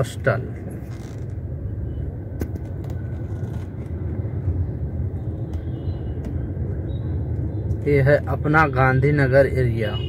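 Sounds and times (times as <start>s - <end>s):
car engine and tyres rumbling: 0.0s - 9.9s.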